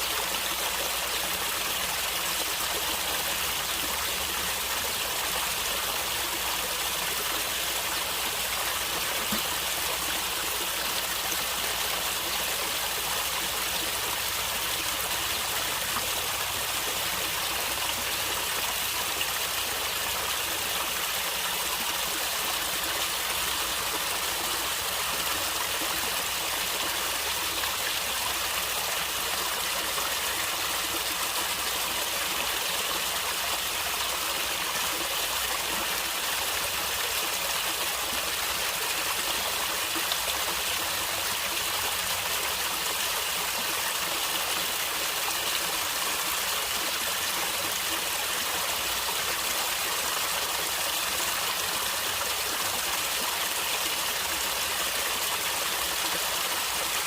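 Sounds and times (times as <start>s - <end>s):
stream gurgling over rocks: 0.0s - 57.0s.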